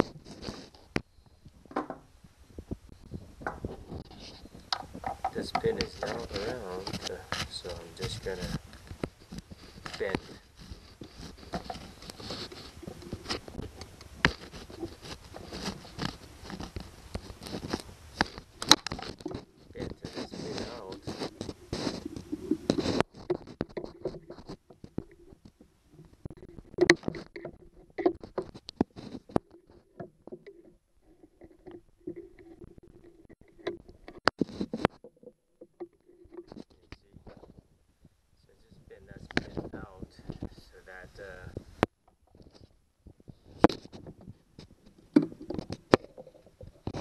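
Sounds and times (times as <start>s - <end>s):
small metal clicks and scrapes: 3.1s - 37.7s, 38.6s - 47.0s.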